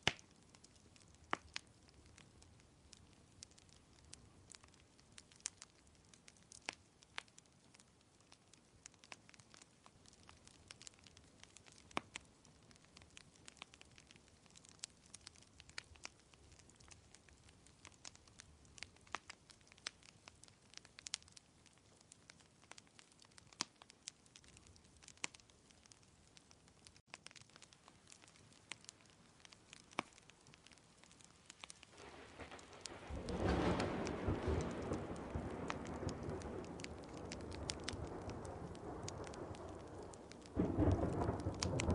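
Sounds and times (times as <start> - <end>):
faint steady hiss: 0.0 - 41.9
wood fire crackling: 0.0 - 41.9.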